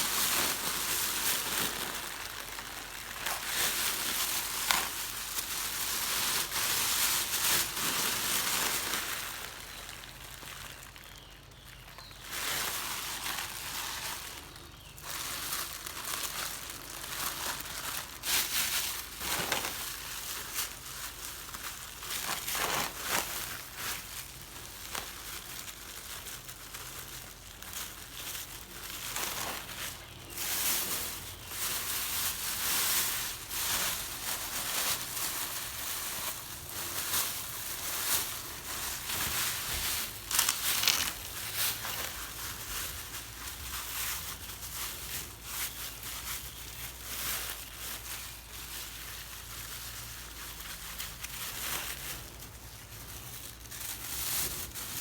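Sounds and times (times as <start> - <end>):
crinkling and rustling: 0.0 - 55.0.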